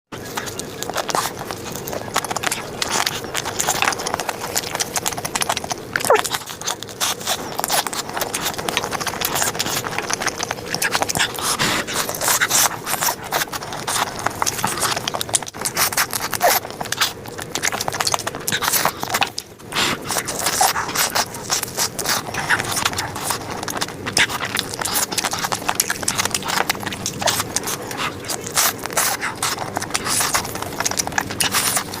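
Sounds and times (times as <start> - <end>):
person chewing wetly: 0.1 - 32.0
lip smacks: 0.2 - 32.0.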